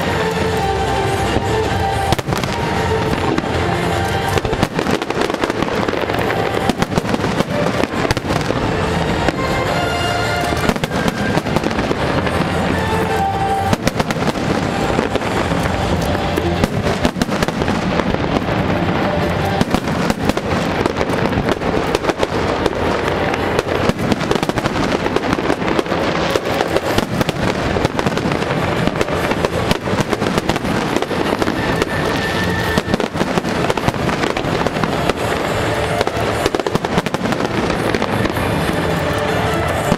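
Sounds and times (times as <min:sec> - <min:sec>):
fireworks bangs and crackling: 0:00.0 - 0:39.9
music playing: 0:00.0 - 0:39.9.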